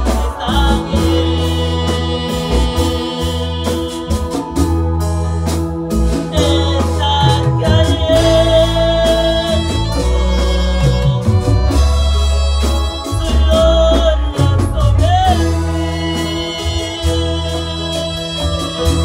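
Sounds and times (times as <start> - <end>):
heavy bass line: 0.0 - 19.0
steady drum beat: 0.0 - 19.0
worship singing with band: 0.0 - 19.0.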